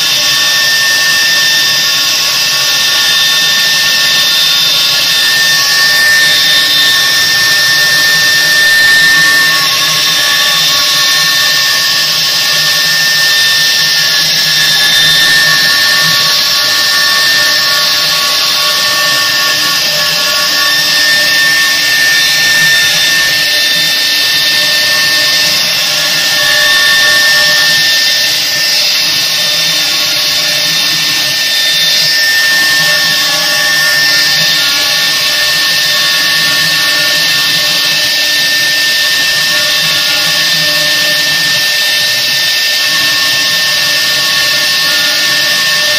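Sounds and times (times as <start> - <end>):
cnc router spindles whining: 0.0 - 45.9.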